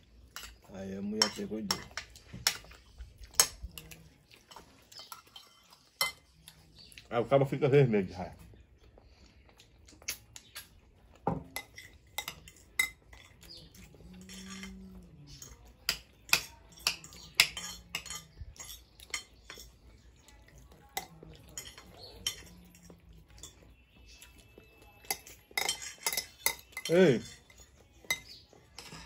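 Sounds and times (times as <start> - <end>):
cutlery clinking on plates: 0.3 - 6.8, 10.0 - 29.0.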